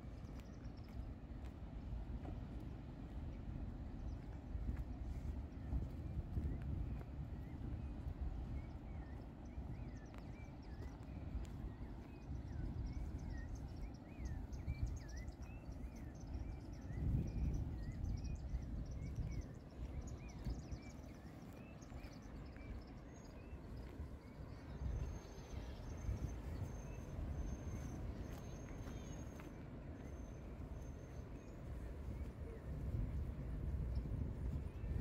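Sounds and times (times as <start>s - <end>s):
birds chirping: 0.0s - 35.0s
low uneven rumble: 0.0s - 35.0s.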